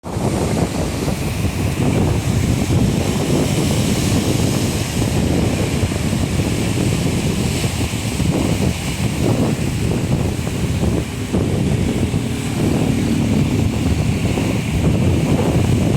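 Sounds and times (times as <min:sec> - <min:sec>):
sea surf washing on shore: 0:00.0 - 0:15.9
wind rumble on microphone: 0:00.0 - 0:15.9.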